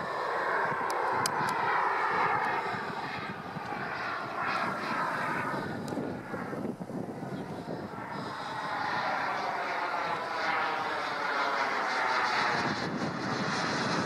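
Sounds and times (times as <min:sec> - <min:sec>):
model jet turbine rushing: 0:00.0 - 0:14.0.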